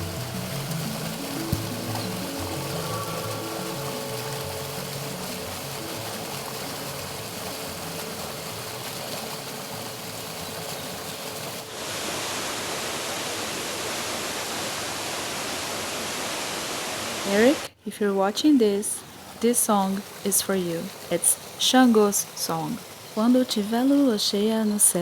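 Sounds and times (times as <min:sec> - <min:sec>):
waterfall and stream rushing: 0:00.0 - 0:25.0.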